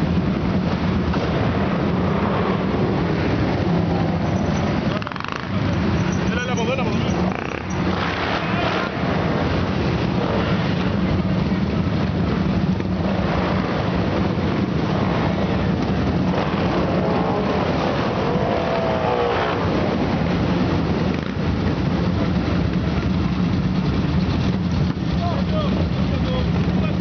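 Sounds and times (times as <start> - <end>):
motorbike engines idling and riding: 0.0 - 27.0.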